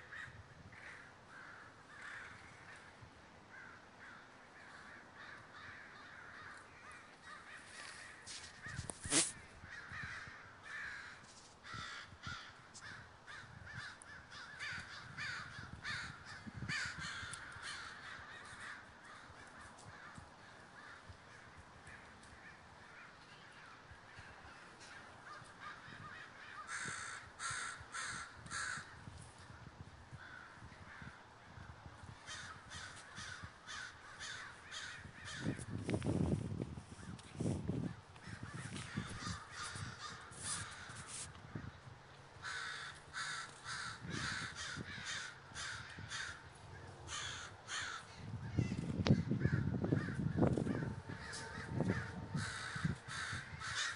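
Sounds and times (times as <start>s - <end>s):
flock of crows cawing: 0.0s - 35.8s, 37.8s - 41.8s, 42.4s - 53.9s.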